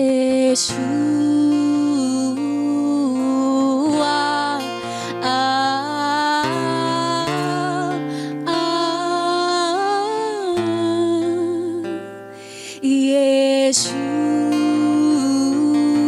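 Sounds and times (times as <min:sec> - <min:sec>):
acoustic guitar: 0:00.0 - 0:16.0
person singing long wordless notes: 0:00.0 - 0:16.0.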